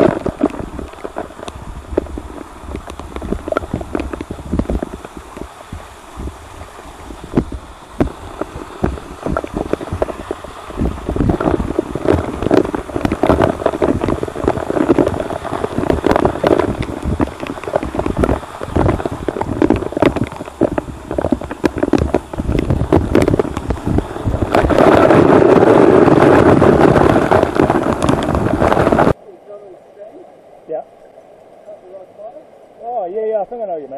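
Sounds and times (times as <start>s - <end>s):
water drops hitting microphone: 0.0s - 29.2s
falling water rushing: 0.0s - 33.9s.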